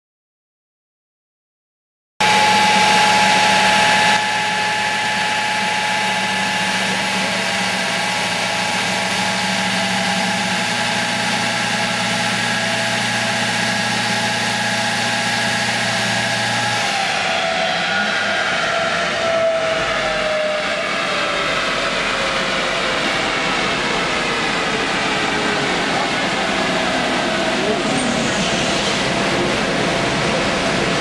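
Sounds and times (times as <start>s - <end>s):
car engine steady drone: 2.2s - 31.0s
low hum: 2.2s - 31.0s.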